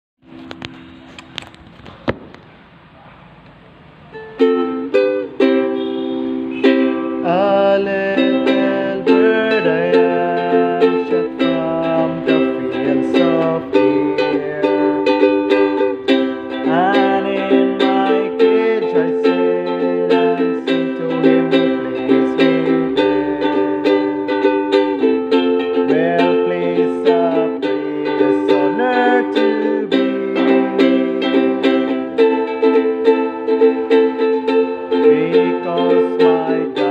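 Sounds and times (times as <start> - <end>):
ukulele strumming chords: 0.2 - 2.5, 4.0 - 36.9.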